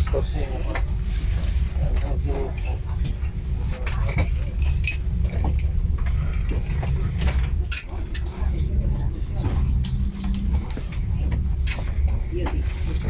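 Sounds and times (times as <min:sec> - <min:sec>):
low rumble inside train carriage: 0:00.0 - 0:13.0.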